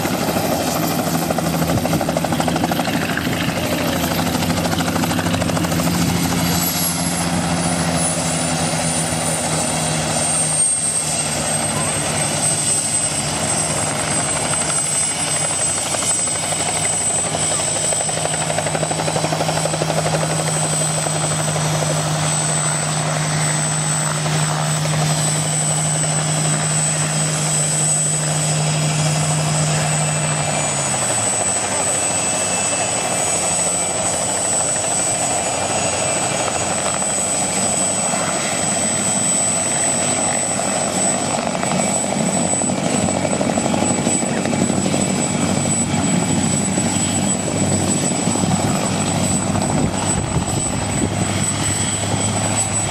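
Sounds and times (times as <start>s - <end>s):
helicopter hovering: 0.0s - 52.9s
low flying helicopter rumble: 0.0s - 52.9s.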